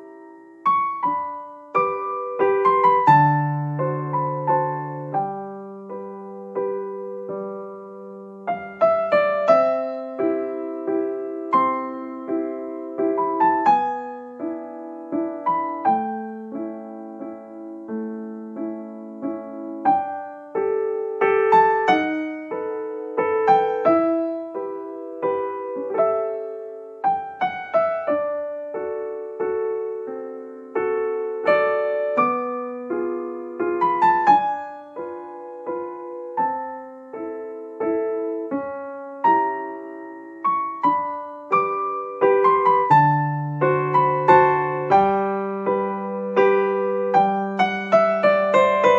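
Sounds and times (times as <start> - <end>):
gentle solo piano melody: 0.0 - 48.9.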